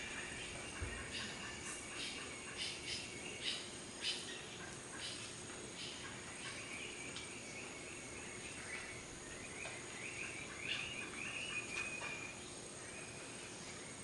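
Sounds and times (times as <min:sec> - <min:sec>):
birds chirping: 0:00.0 - 0:14.0
steady background hiss: 0:00.0 - 0:14.0.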